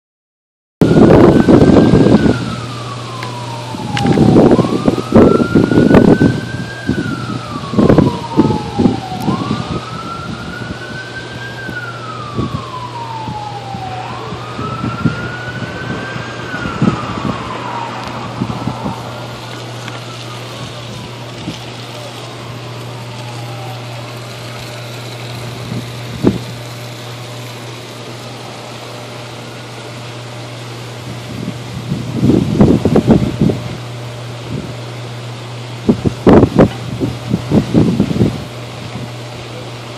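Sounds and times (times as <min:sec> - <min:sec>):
transformer arcing crackles: 0:00.8 - 0:34.9
emergency siren wailing: 0:00.8 - 0:39.9
steady low hum: 0:00.9 - 0:39.9.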